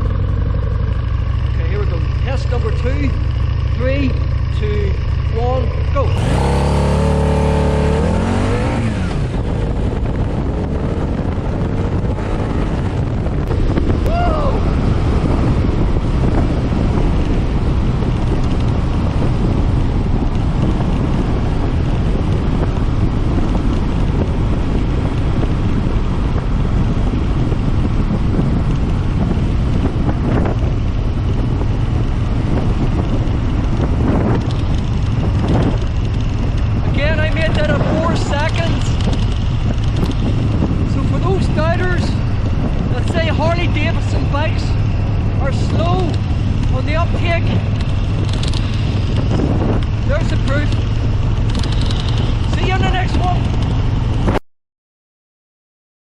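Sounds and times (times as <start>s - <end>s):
motorcycle engine revving: 0.0s - 54.4s
wind buffeting microphone: 0.0s - 54.4s.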